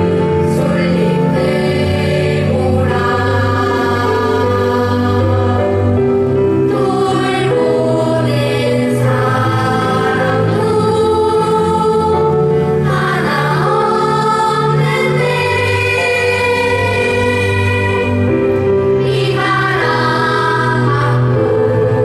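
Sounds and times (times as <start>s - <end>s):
children's choir singing: 0.0s - 22.0s
instrumental accompaniment with bass: 0.0s - 22.0s.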